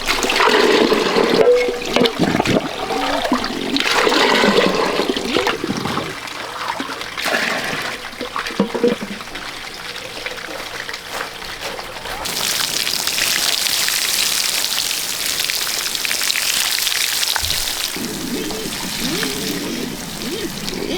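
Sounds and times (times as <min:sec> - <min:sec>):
rushing gurgling water: 0:00.0 - 0:11.6, 0:12.2 - 0:20.9.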